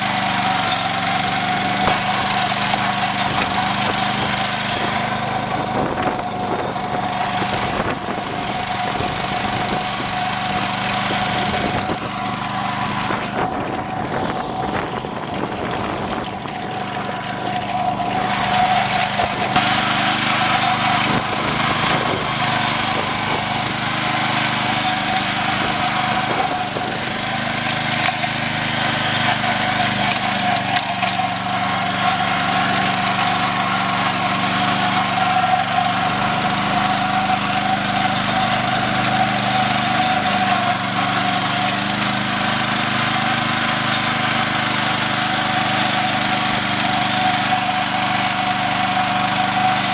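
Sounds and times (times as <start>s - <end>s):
garden tractor engine running: 0.0s - 49.9s.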